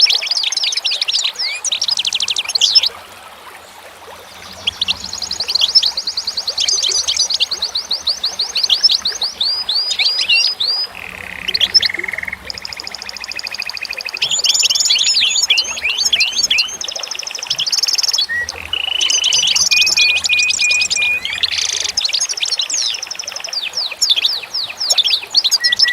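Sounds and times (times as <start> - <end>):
songbirds singing: 0.0 - 25.9.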